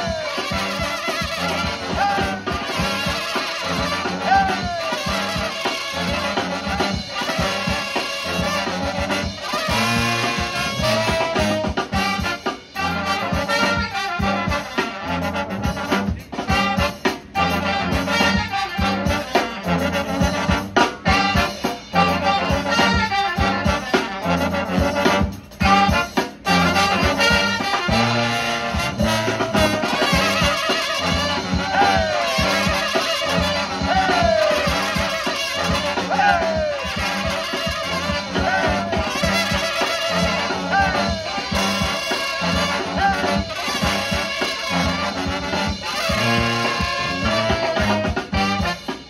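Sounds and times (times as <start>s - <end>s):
brass band playing: 0.0s - 49.0s
drum kit beat: 0.0s - 49.0s.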